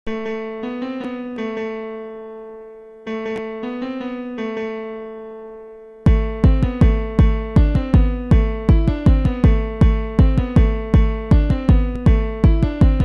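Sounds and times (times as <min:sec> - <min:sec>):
electric piano phrase: 0:00.1 - 0:13.0.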